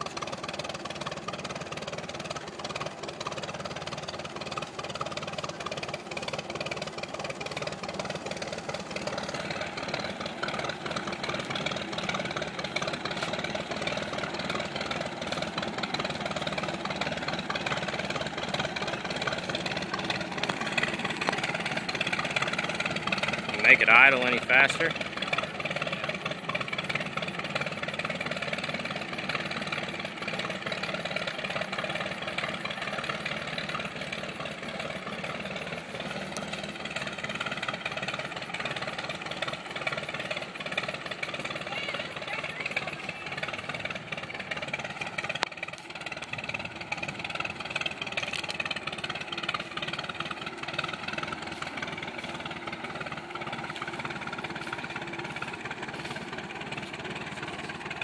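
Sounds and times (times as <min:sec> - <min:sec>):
tractor engine chugging: 0:00.0 - 0:58.0.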